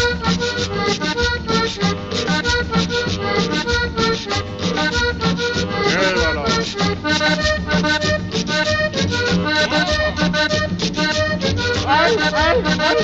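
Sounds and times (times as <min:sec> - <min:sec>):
accordion melody: 0:00.0 - 0:13.0
driving beat: 0:00.0 - 0:13.0.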